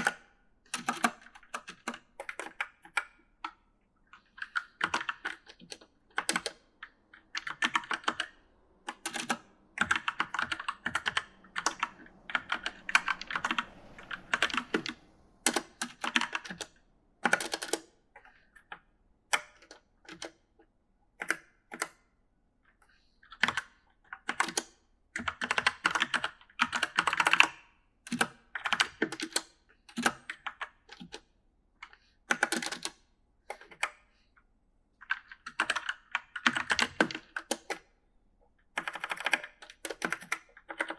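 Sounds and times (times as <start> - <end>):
mechanical keyboard typing: 0.0 - 20.4, 21.2 - 22.0, 23.3 - 34.0, 35.0 - 37.9, 38.7 - 40.9.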